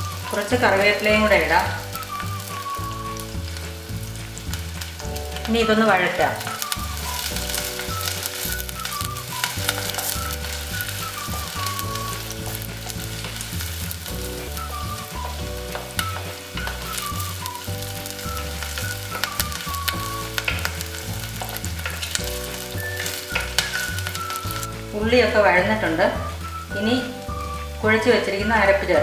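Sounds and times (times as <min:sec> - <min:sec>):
shallots sizzling in hot oil: 0:00.0 - 0:29.0
wooden spoon scraping a pot: 0:00.2 - 0:24.9.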